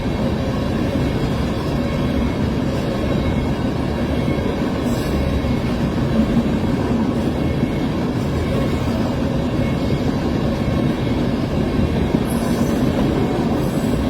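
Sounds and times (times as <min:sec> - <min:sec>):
train rumbling over rails: 0:00.0 - 0:14.0.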